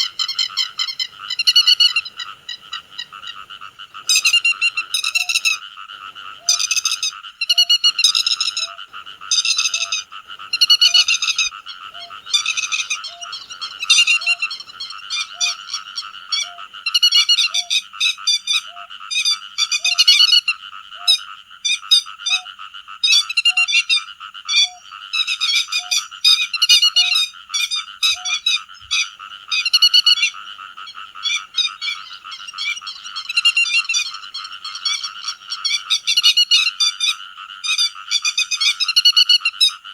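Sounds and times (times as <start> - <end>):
frog-like chorus: 0.0 - 39.9
lapwing calling: 0.0 - 39.9.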